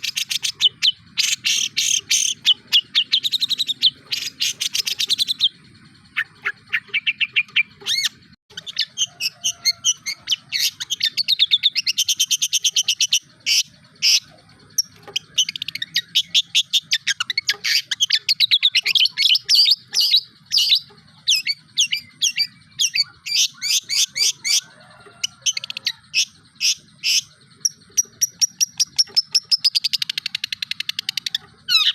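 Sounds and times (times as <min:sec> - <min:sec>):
bird singing fast trills: 0:00.0 - 0:31.9.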